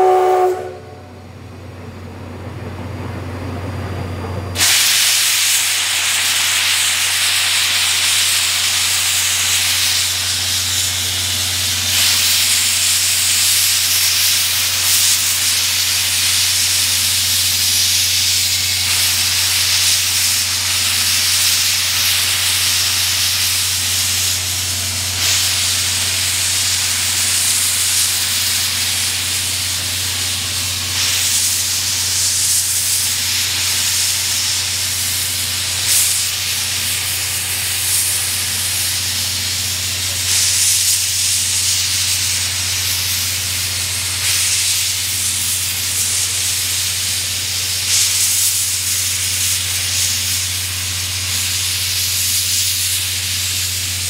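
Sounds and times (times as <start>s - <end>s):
steam locomotive hissing steam: 0.0s - 1.4s, 4.5s - 54.0s.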